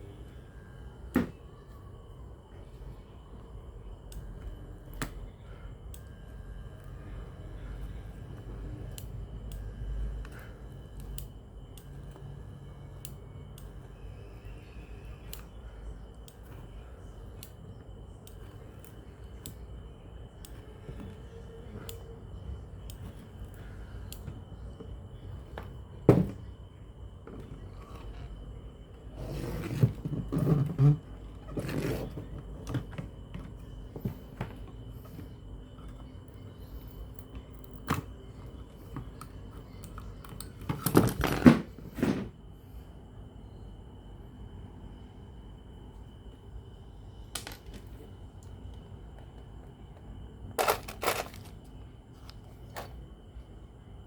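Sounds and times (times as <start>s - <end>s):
faint high whine: 0.0s - 54.0s.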